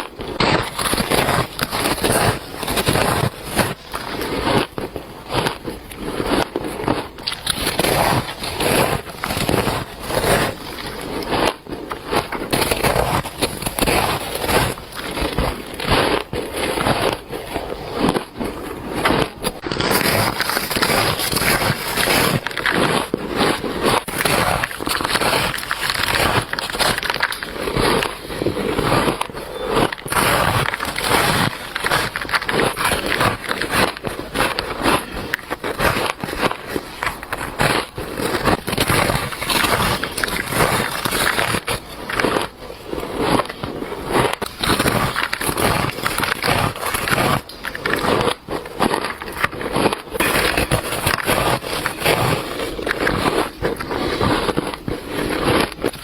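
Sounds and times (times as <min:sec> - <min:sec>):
chewing crunchy shaved ice: 0:00.0 - 0:56.0.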